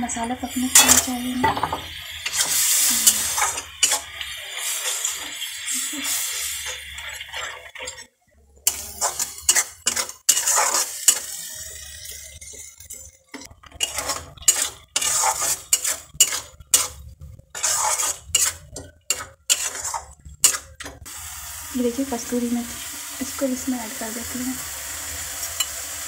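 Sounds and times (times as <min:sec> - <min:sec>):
metal spatula scraping a pan: 0:00.1 - 0:21.0.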